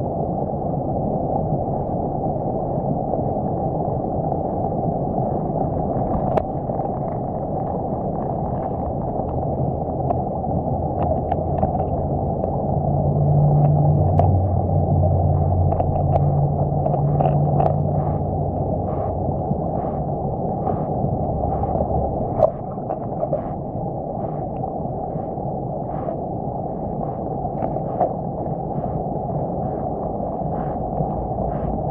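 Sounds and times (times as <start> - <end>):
low rumble: 0.0 - 31.9
muffled underwater stream rush: 0.0 - 31.9.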